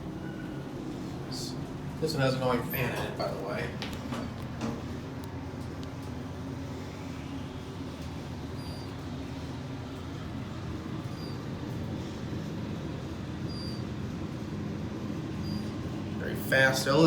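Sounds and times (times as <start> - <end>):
elevator hum: 0.0 - 17.0
ventilation fan running: 0.0 - 17.0.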